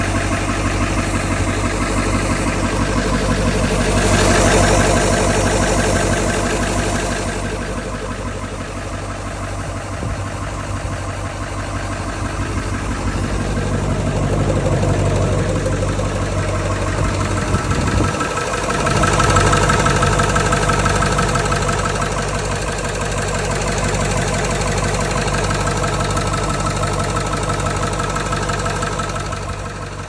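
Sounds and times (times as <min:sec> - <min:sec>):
diesel engine idling with knock: 0:00.0 - 0:30.0.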